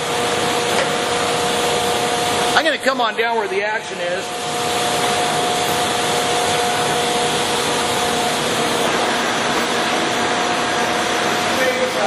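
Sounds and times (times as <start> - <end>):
lathe running with whining tones: 0.0 - 12.0.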